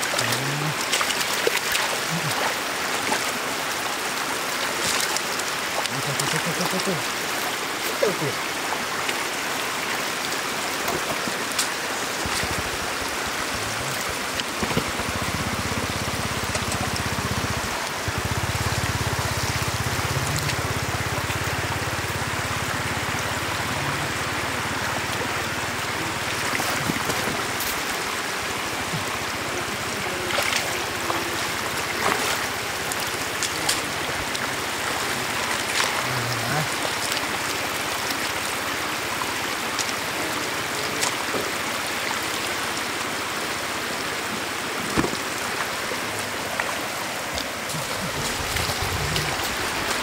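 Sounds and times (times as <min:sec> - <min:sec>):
basket splashing through water: 0:00.0 - 0:09.2, 0:10.0 - 0:40.1, 0:44.8 - 0:50.0
floodwater rushing: 0:00.0 - 0:50.0.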